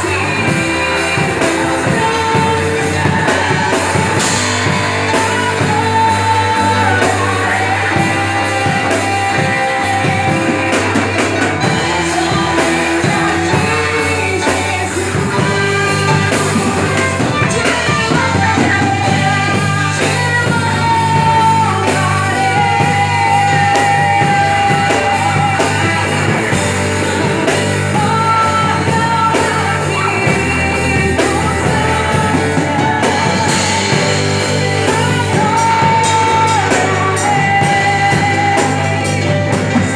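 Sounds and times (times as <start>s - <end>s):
band with guitar: 0.0s - 39.9s
voices singing praise song: 0.0s - 39.9s.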